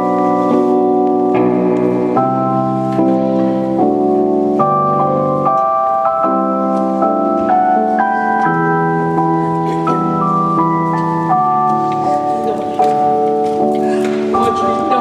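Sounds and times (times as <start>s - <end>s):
organ-like keyboard chords: 0.0s - 15.0s.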